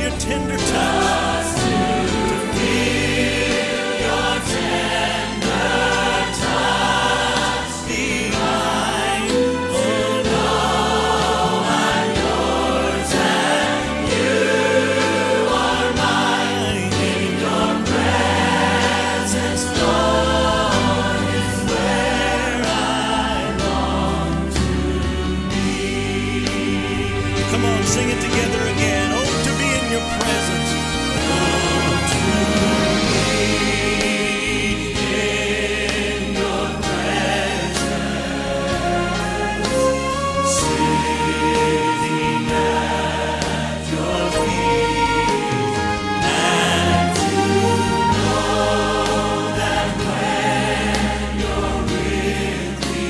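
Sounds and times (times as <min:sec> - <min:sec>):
choir singing gospel song: 0:00.0 - 0:53.0
instrumental backing with bass: 0:00.0 - 0:53.0.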